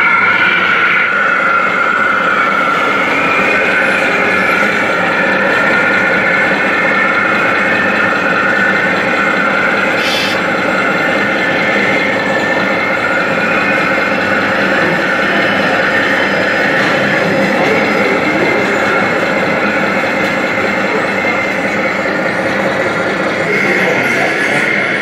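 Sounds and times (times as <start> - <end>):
electric motors whining: 0.0 - 25.0
noisy background: 0.0 - 25.0.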